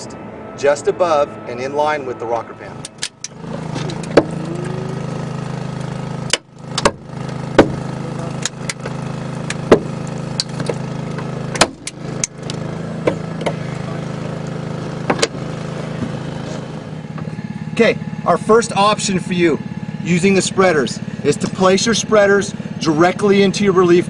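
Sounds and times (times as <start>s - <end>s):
small engine running: 0.8s - 24.0s.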